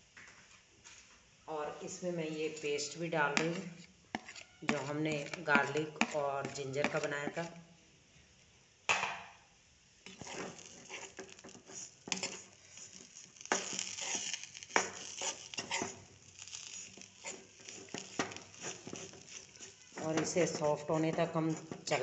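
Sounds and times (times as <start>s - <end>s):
spatula scraping a wok: 1.8s - 7.6s, 10.0s - 22.0s.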